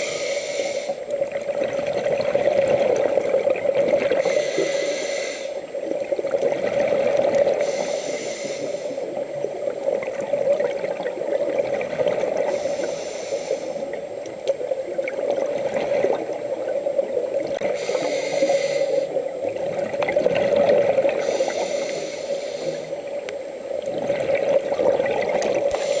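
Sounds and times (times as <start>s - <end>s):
steady low hum: 0.0s - 26.0s
exhaled bubbles rushing underwater: 1.1s - 4.6s, 5.6s - 26.0s.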